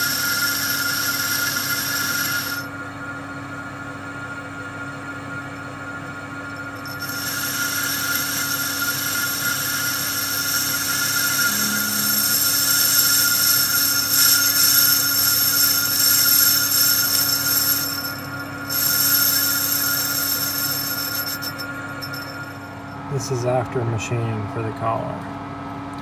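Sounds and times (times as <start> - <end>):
metal lathe cutting whine: 0.0 - 23.2.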